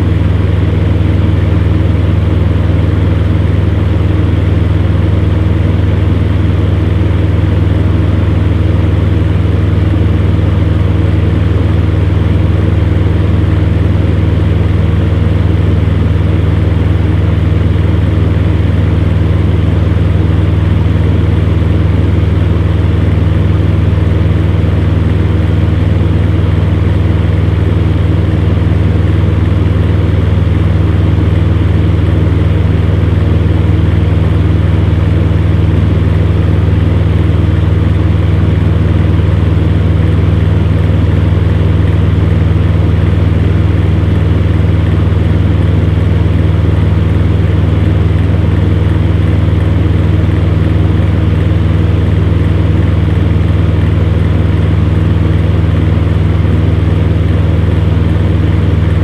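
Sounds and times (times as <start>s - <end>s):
electric fan heater humming: 0.0s - 59.0s.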